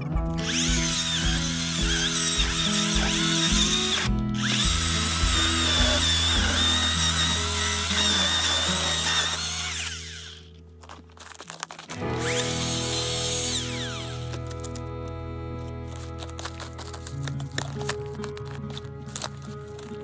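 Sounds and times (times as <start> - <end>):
background music: 0.0 - 20.0
electric chainsaw cutting log: 0.3 - 20.0.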